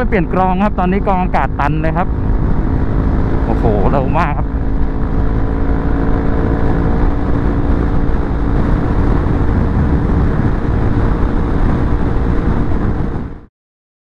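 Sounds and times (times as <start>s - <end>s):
scooter engine pulling hard: 0.0s - 13.5s
wind rush on microphone: 0.0s - 13.5s.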